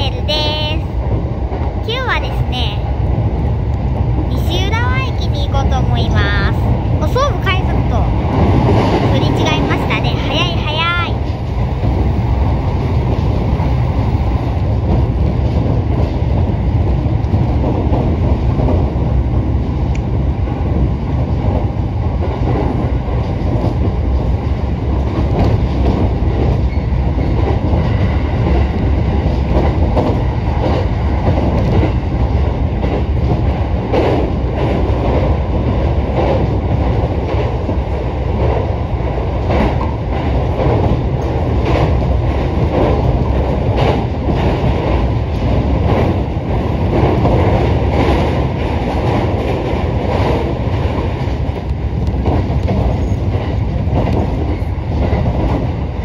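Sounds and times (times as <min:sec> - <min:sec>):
train running low rumble: 0:00.0 - 0:56.0.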